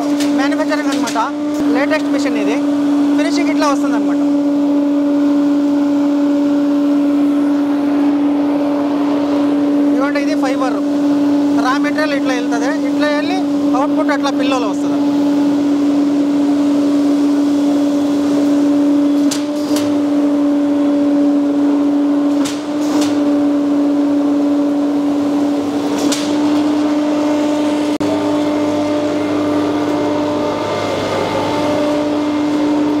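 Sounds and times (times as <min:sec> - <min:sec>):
electric blower humming: 0:00.0 - 0:33.0.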